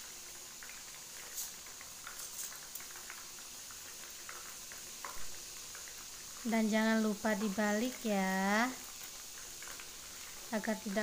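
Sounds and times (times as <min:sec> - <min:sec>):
oil popping and crackling: 0:00.0 - 0:11.0
oil sizzling and bubbling: 0:00.0 - 0:11.0.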